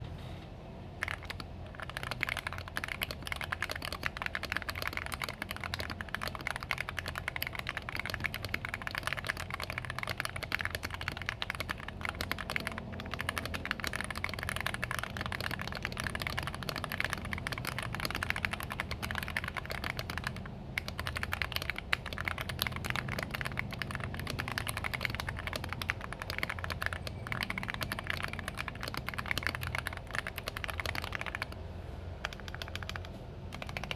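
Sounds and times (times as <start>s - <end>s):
mechanical keyboard typing: 1.0s - 31.6s, 32.2s - 33.9s.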